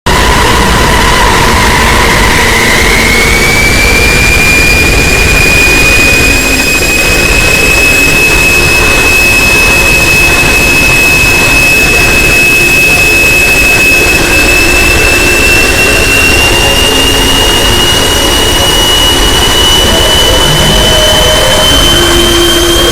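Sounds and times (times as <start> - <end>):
alarm siren wailing: 0.1 - 22.9.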